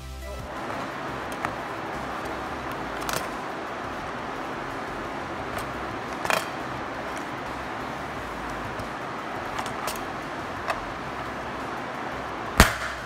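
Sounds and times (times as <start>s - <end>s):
steady background rush: 0.3s - 13.0s
rivet gun metallic clicks: 1.1s - 13.0s.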